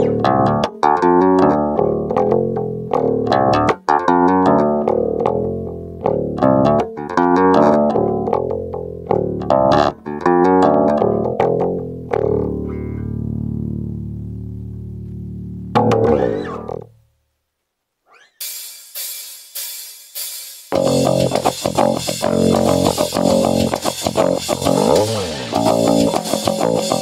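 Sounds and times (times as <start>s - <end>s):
electric bass plucked notes: 0.0s - 17.2s, 20.7s - 27.0s.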